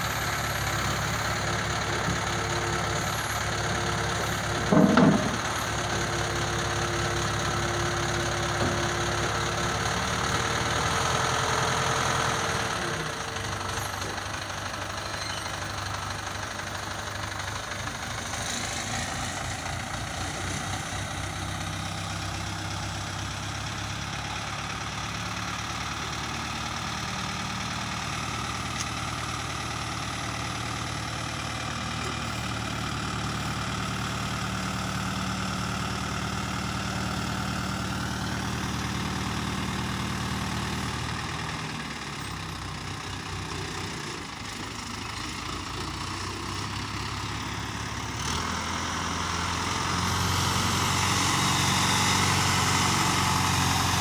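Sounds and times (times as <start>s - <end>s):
crane diesel engine running: 0.0s - 54.0s.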